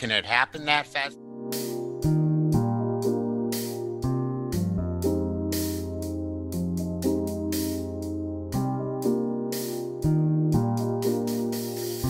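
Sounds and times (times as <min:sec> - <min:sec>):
keyboard chords: 0:00.6 - 0:12.0
light hissing beat: 0:01.4 - 0:12.0.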